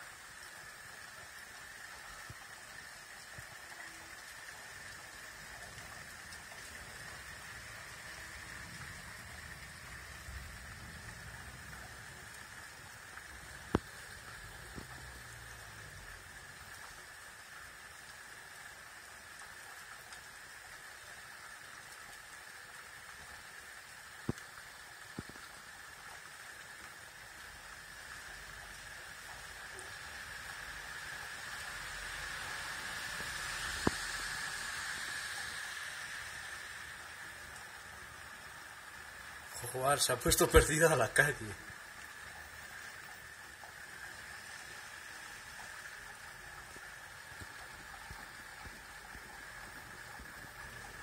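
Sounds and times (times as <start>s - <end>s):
rain hissing: 0.0s - 51.0s.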